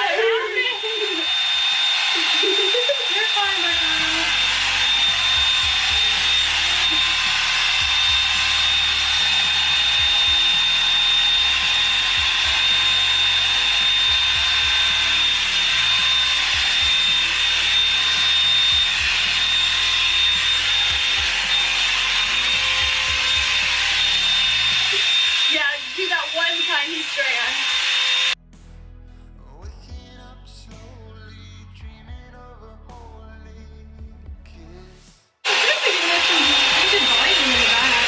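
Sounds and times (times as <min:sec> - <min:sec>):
hair dryer brush running: 0:00.0 - 0:28.4, 0:35.5 - 0:38.0.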